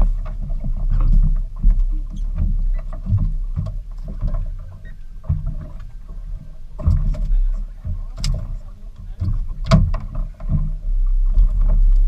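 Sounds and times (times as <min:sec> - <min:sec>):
boat engine low rumble: 0:00.0 - 0:12.0
hull knocks and thuds: 0:00.0 - 0:12.0.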